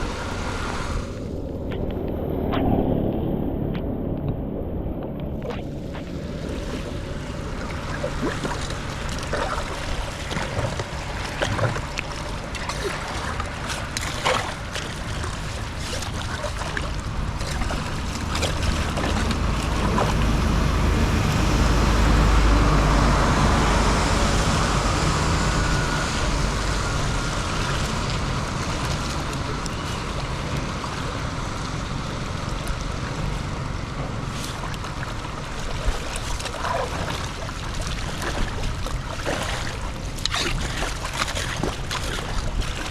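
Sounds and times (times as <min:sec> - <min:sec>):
water rushing: 0:00.0 - 0:42.9
wind rumbling on microphone: 0:00.0 - 0:42.9.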